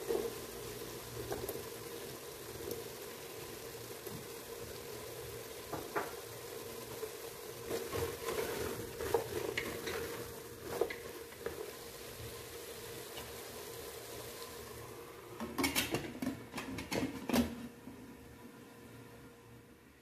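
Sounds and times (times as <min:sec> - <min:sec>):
food mixed by hand in a pot: 0:00.0 - 0:18.1.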